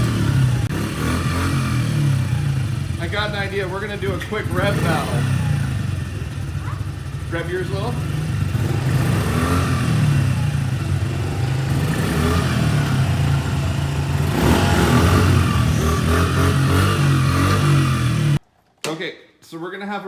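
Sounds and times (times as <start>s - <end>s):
motorbike engine revving: 0.0s - 18.4s.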